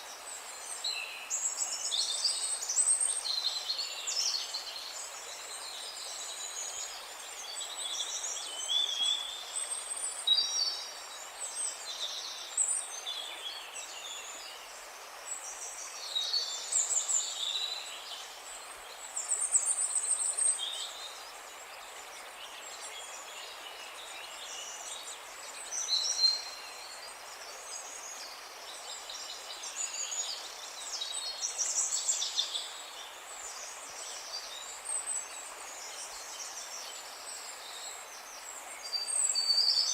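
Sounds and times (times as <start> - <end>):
soft steady hiss: 0.0 - 39.9.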